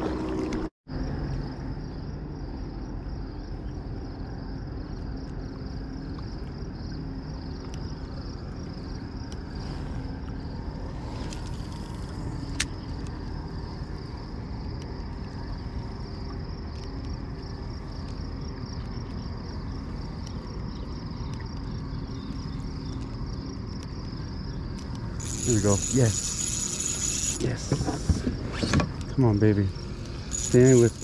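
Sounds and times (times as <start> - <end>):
insects chirping: 0.9 - 31.0.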